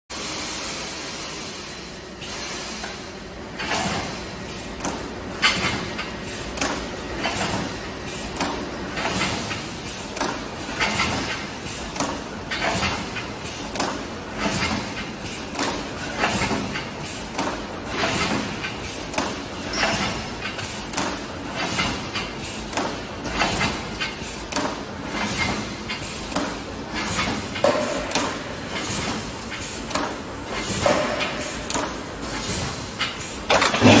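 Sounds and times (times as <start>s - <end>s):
steady mechanical noise: 0.1s - 34.0s
welding machine clattering stroke: 0.4s - 34.0s.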